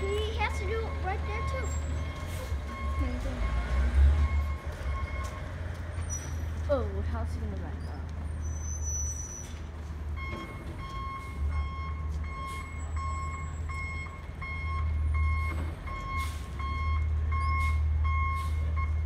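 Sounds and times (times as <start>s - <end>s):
truck backup alarm beeping: 0.0s - 6.0s, 8.5s - 19.0s
truck engine running: 0.0s - 19.0s.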